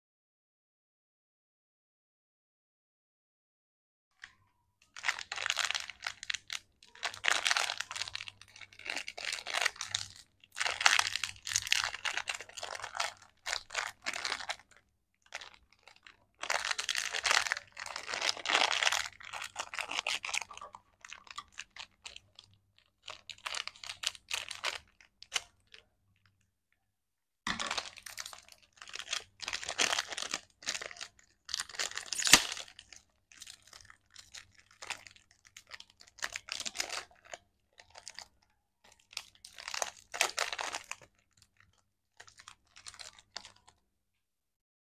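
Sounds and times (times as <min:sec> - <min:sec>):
plastic packet crinkling: 0:04.2 - 0:26.4, 0:27.5 - 0:43.8.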